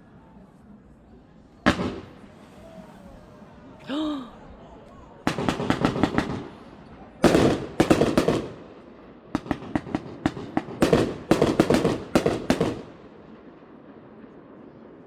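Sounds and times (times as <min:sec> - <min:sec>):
fireworks bangs and crackles: 0:01.6 - 0:03.7, 0:05.0 - 0:15.0.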